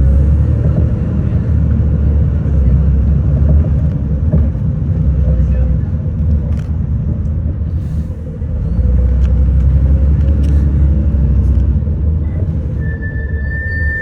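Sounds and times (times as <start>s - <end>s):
bus engine and road drone: 0.0s - 14.0s.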